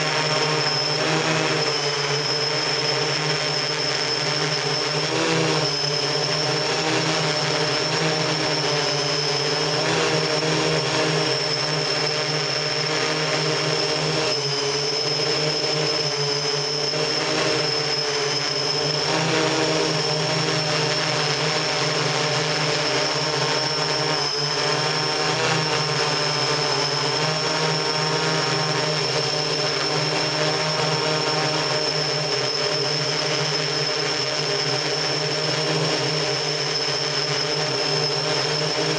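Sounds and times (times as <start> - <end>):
drone propellers humming and whining: 0.0 - 38.9.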